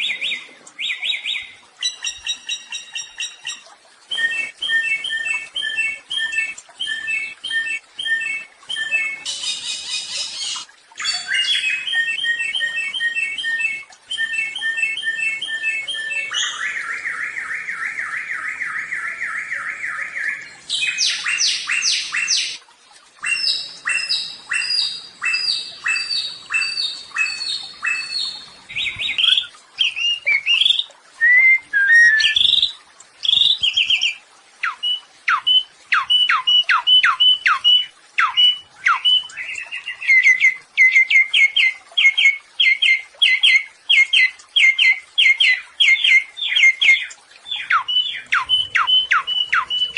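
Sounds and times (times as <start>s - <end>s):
songbird singing trills: 0.0s - 22.6s, 23.2s - 49.9s.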